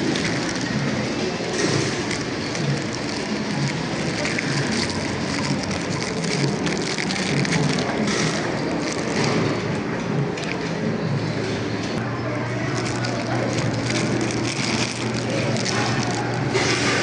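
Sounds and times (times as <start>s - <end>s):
crowd murmuring: 0.0s - 17.0s.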